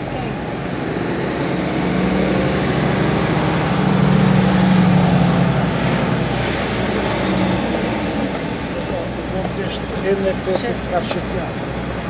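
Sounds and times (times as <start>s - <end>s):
city street traffic: 0.0s - 12.0s
large vehicle engine running: 0.0s - 12.0s.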